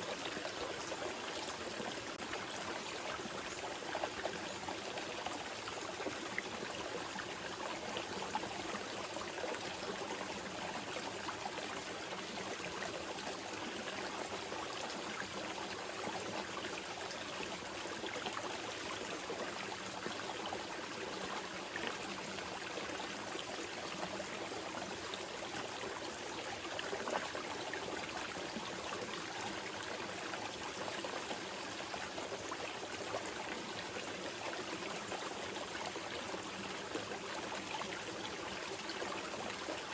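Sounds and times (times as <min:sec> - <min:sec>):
water splashes and trickles: 0:00.0 - 0:39.9.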